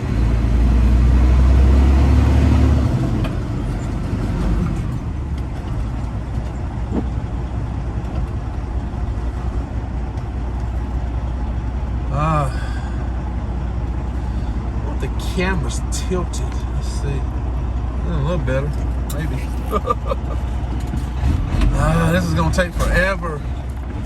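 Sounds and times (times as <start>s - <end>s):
diesel truck engine drone: 0.0s - 24.0s
road noise: 0.0s - 24.0s.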